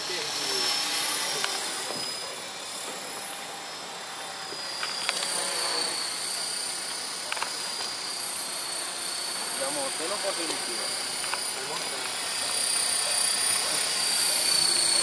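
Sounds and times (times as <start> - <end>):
model helicopter whine: 0.0 - 15.0.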